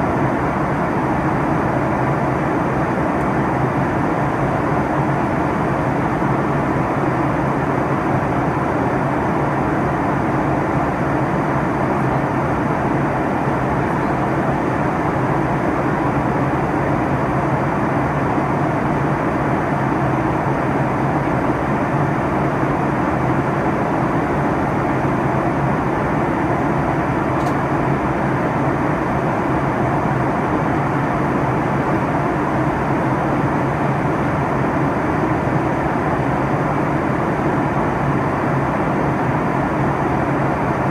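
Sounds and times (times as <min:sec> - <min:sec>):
airliner cabin noise: 0:00.0 - 0:40.9.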